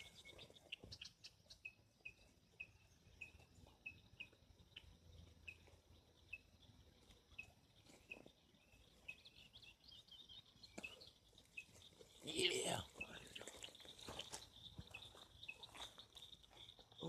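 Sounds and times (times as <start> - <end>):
faint high chirps: 0.0 - 17.0.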